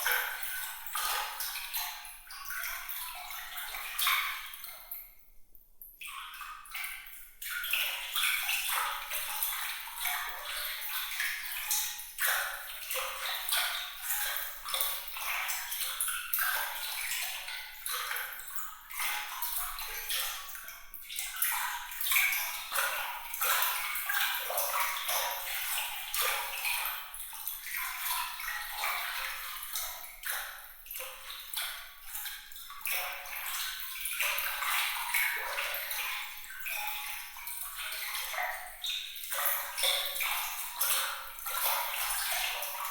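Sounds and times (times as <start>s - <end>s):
water trickling and splashing: 0.0s - 5.2s, 5.9s - 42.9s
water dripping: 0.0s - 42.9s.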